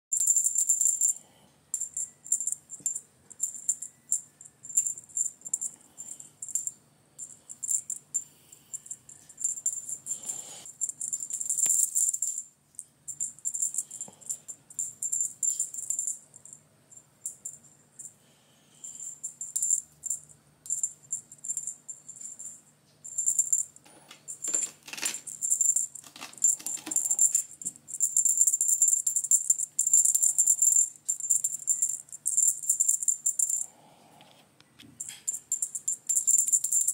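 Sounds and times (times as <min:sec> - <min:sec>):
cat toy jingling: 0:00.1 - 0:12.5, 0:13.1 - 0:16.6, 0:18.8 - 0:23.7, 0:24.3 - 0:33.6, 0:35.0 - 0:36.9.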